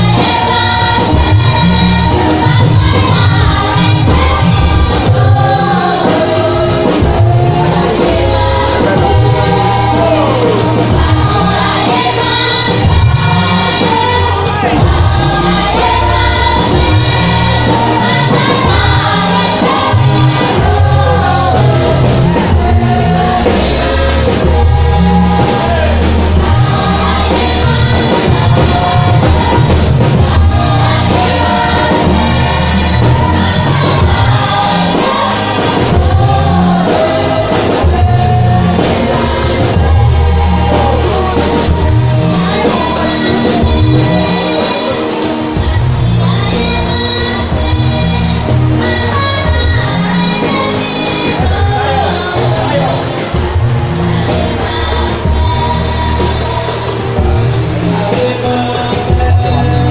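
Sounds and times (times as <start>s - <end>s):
amplified accompaniment with heavy bass: 0.0s - 59.9s
choir singing gospel song: 0.0s - 59.9s.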